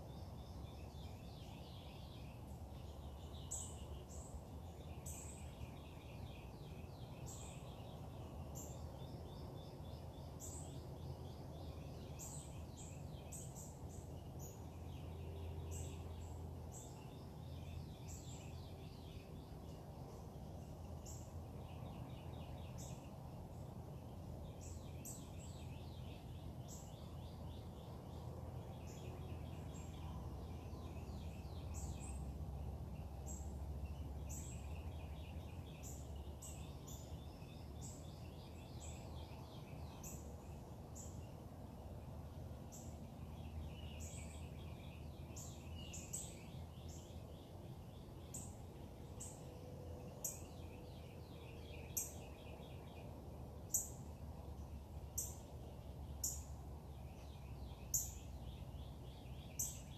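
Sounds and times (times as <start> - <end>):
birds chirping and trilling: 0.0 - 41.4, 42.0 - 59.9.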